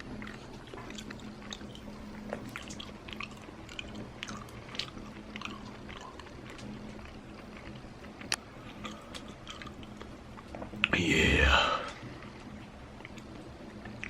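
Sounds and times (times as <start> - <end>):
person chewing with mouth clicks: 0.0 - 14.0.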